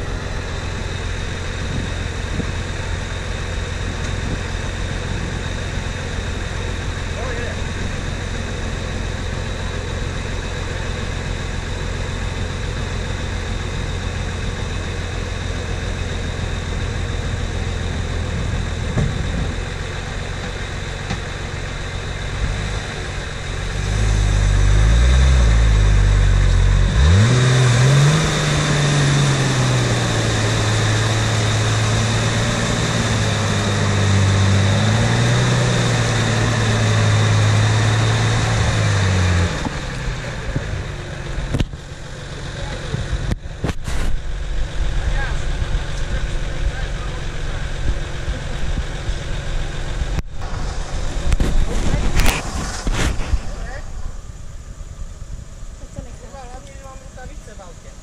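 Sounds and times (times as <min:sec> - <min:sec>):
jeep engine idling and revving: 0:00.0 - 0:58.0.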